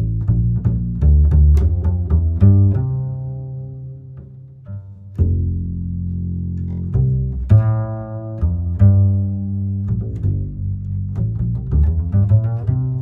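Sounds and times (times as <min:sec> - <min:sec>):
bowed and plucked bass strings: 0:00.0 - 0:13.0.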